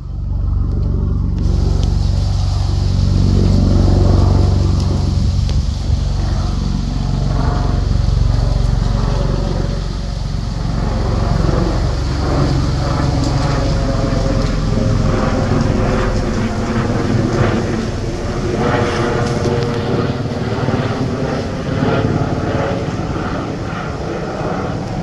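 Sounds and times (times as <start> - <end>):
helicopter high whine: 0.0 - 25.0
helicopter rotor beating: 0.0 - 25.0.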